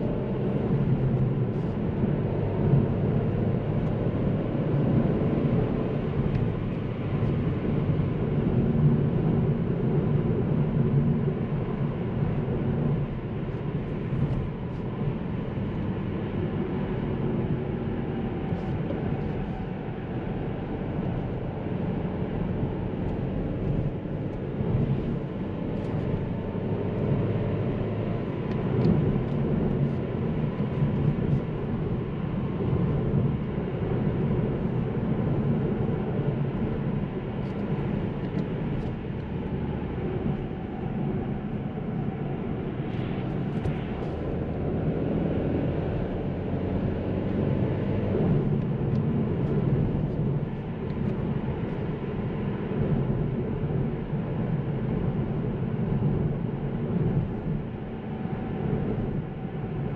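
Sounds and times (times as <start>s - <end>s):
tyre and road noise: 0.0s - 59.9s.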